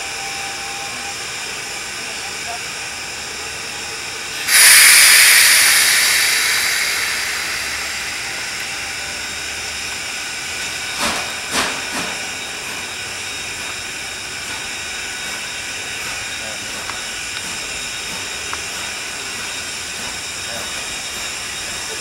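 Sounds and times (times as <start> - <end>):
steam locomotive venting steam: 0.0 - 22.0.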